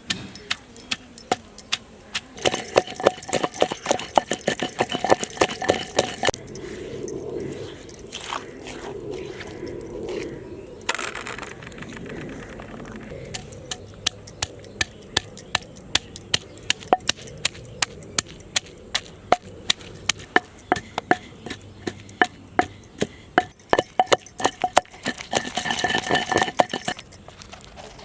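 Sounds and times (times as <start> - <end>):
clinking rattle: 0.0 - 8.1, 10.8 - 12.1, 13.1 - 27.2.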